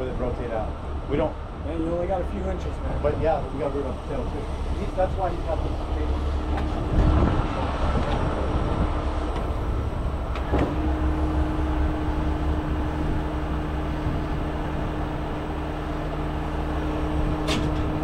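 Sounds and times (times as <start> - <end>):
diesel truck engine running: 0.0 - 18.0
steady hum: 0.1 - 18.0.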